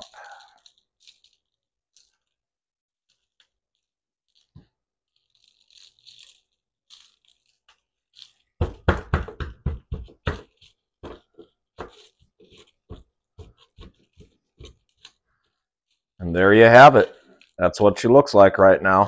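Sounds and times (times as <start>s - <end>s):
gloved hands rustling: 0.0s - 19.0s.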